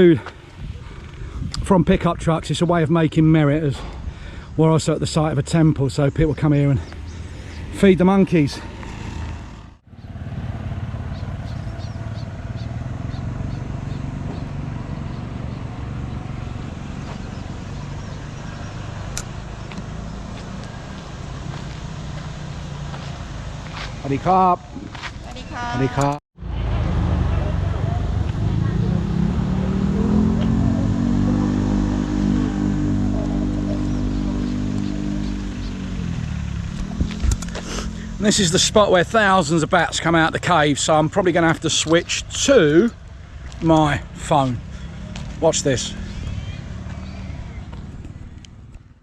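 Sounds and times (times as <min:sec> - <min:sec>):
vehicle engine rumbling: 0:00.0 - 0:49.0.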